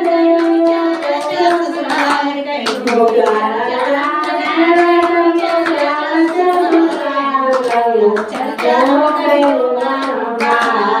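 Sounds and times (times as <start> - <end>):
hands clapping in time: 0.0 - 11.0
women singing devotional song: 0.0 - 11.0.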